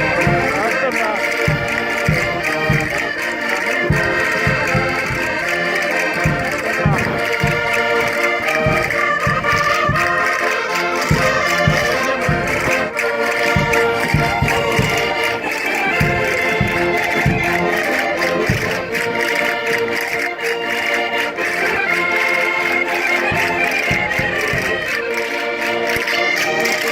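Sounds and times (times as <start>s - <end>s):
steady low beat: 0.0s - 22.1s
button accordions playing folk tune: 0.0s - 26.9s.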